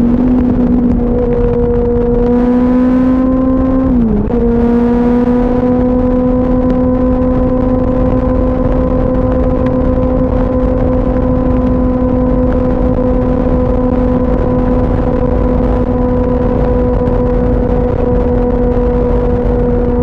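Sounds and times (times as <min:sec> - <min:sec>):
motorcycle engine at high rpm: 0:00.0 - 0:20.0
wind noise: 0:00.0 - 0:20.0.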